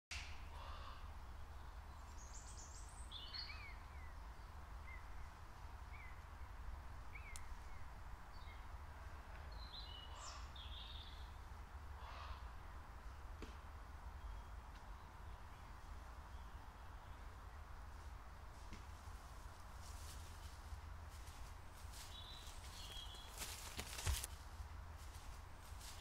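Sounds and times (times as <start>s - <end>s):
faint birdsong chirps and trills: 0.2s - 26.0s
steady low rumble: 0.3s - 26.0s.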